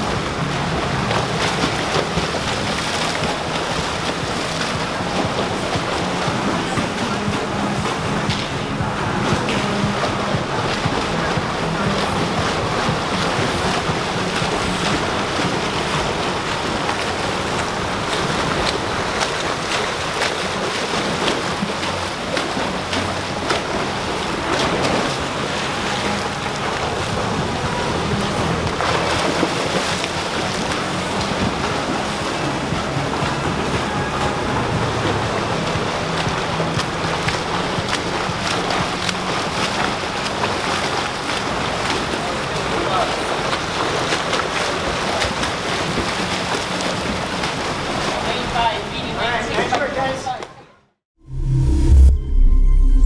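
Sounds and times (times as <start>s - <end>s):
swimmers splashing in water: 0.0s - 50.6s.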